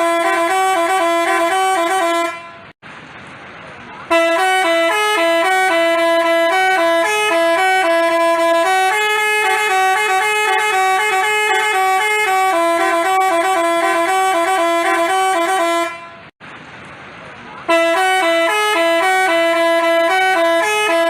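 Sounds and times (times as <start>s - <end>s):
bus horn playing a tune: 0.0s - 2.8s, 4.1s - 16.4s, 17.7s - 21.0s.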